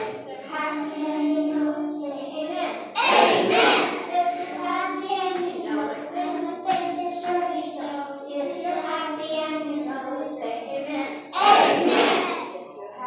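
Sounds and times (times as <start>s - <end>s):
young children singing: 0.0s - 12.8s.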